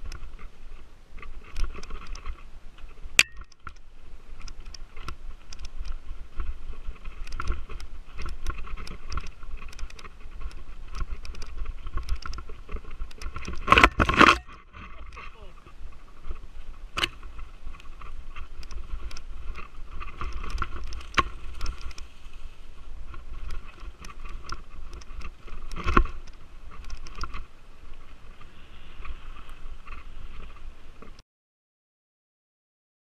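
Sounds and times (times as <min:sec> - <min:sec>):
mountain bike rattling downhill: 0:00.0 - 0:31.2.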